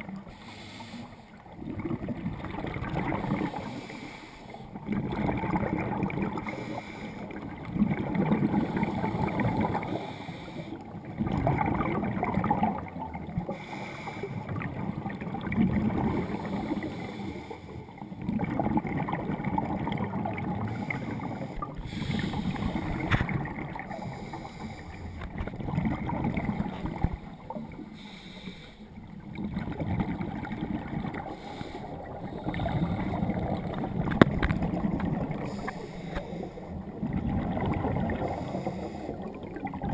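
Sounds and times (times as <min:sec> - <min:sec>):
underwater exhaled air bubbling: 0:00.0 - 0:39.9.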